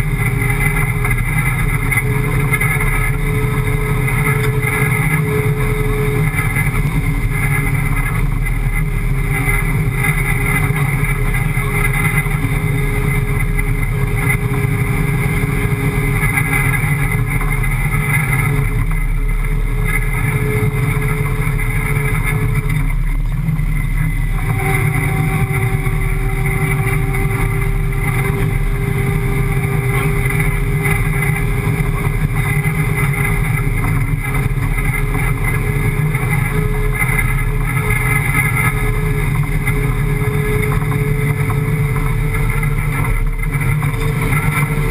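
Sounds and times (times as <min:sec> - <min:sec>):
car engine running at speed: 0:00.0 - 0:44.9.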